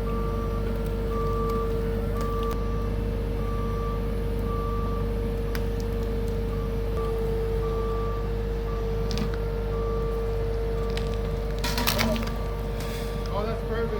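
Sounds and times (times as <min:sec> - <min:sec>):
engine running with low rumble: 0:00.0 - 0:13.9.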